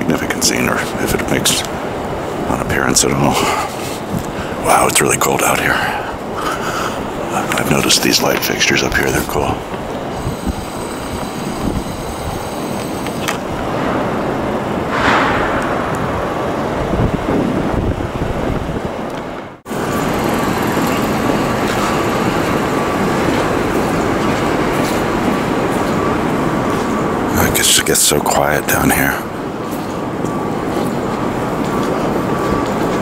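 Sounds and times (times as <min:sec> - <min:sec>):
city street traffic: 0:00.0 - 0:14.8, 0:19.1 - 0:33.0.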